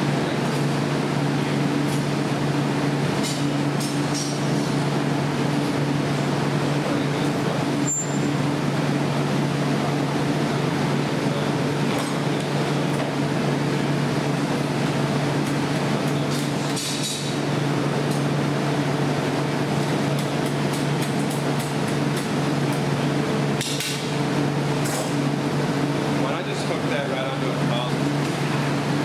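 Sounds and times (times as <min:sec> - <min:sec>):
blowers and burners humming: 0:00.0 - 0:29.0.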